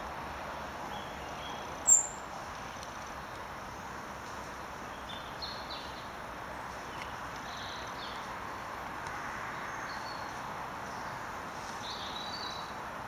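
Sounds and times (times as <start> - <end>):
woodland background hiss: 0.0 - 13.0
small birds chirping: 0.8 - 13.0.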